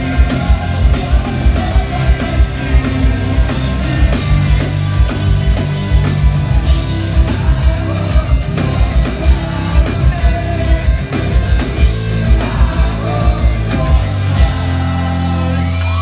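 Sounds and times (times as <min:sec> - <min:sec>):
person singing: 0:00.0 - 0:06.1, 0:07.0 - 0:15.7
distorted electric guitars: 0:00.0 - 0:16.0
drums: 0:00.0 - 0:16.0
live rock band: 0:00.0 - 0:16.0.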